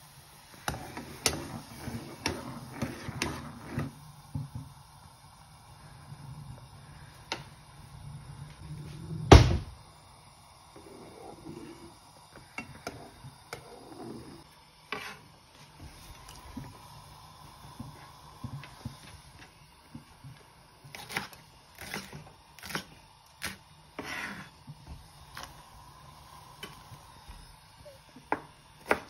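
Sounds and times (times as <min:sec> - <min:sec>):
water boiling: 0:00.0 - 0:29.0.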